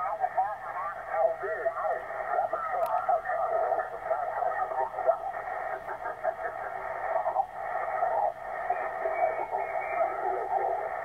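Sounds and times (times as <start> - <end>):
garbled radio voice: 0.0 - 11.0
radio band noise: 0.0 - 11.0.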